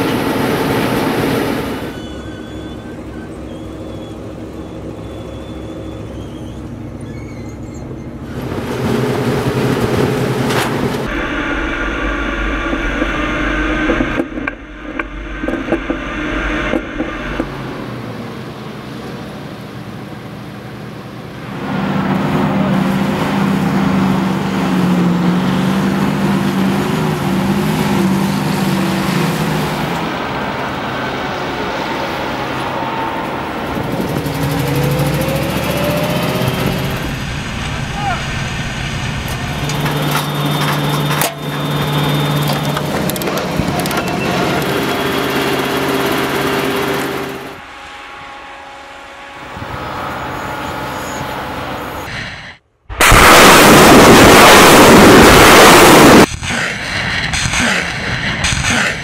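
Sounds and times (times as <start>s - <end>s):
heavy military vehicle engines: 0.0s - 59.0s.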